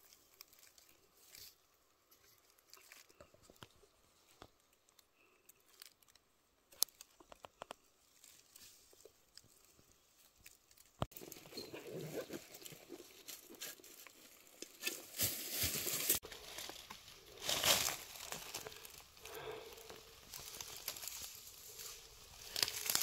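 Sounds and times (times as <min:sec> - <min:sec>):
handling rustling and crackling: 0:00.0 - 0:23.0.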